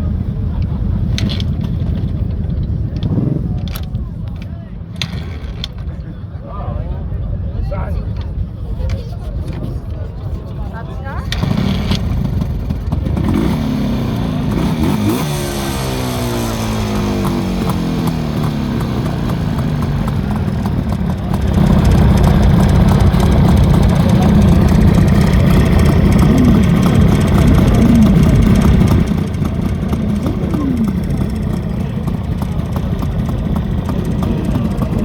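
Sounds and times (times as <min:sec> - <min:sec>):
two-stroke engine running: 0:00.0 - 0:05.9, 0:11.1 - 0:35.0.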